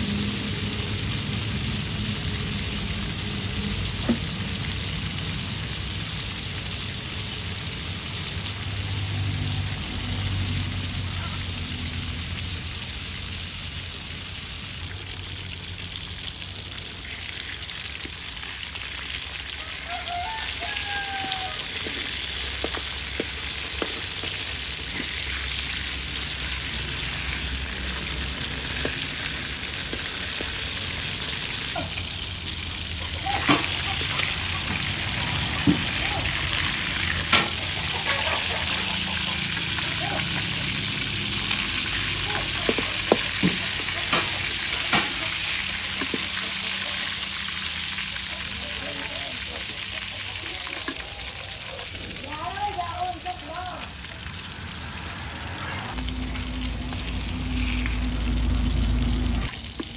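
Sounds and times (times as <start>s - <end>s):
fish sizzling in oil: 0.0s - 59.9s.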